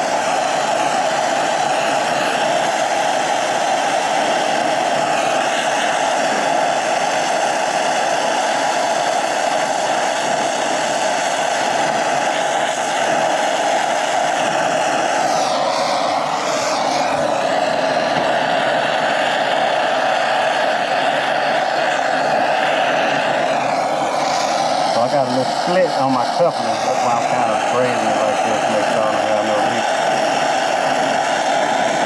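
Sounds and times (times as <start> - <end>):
torch flame hissing: 0.0 - 32.0.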